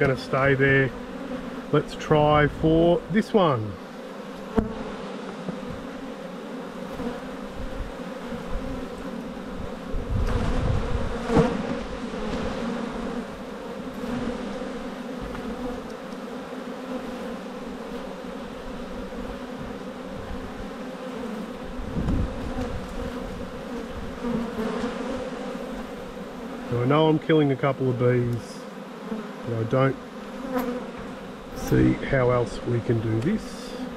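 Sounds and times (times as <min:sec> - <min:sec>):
honeybees buzzing: 0:00.0 - 0:33.9.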